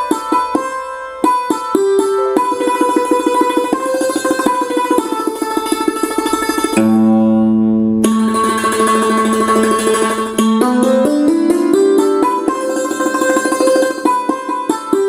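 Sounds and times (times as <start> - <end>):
keyboard plucked-string melody: 0.0 - 15.0.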